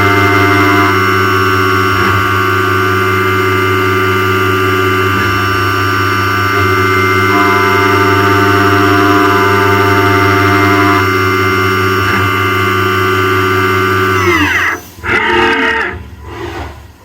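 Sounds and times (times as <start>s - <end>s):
milling machine whining: 0.0s - 17.0s.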